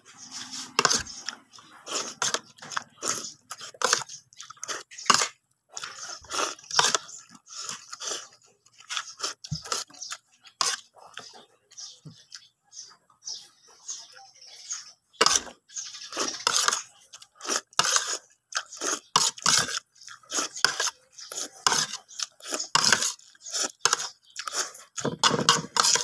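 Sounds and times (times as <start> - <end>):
person chewing rice: 0.0 - 12.5, 15.2 - 26.0.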